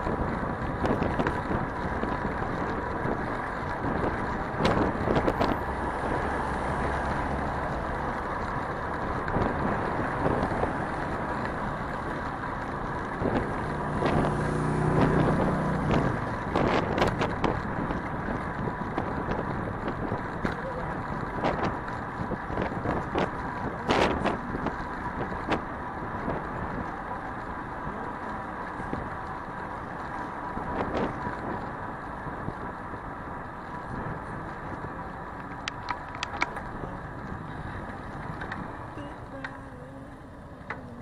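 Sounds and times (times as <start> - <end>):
cars going by: 0.0 - 41.0
city traffic: 0.0 - 41.0.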